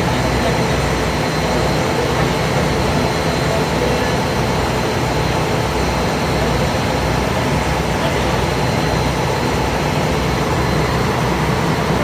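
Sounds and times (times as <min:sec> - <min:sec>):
ferry engine running: 0:00.0 - 0:12.0.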